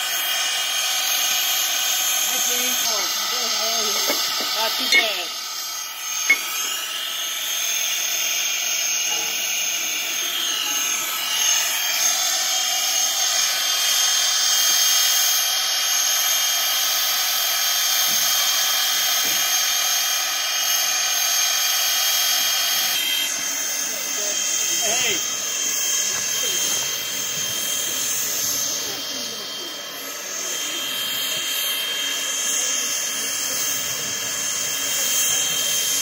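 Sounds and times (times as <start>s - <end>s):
high even whine: 0.0s - 15.4s, 19.2s - 36.0s
steam locomotive hissing: 0.0s - 36.0s.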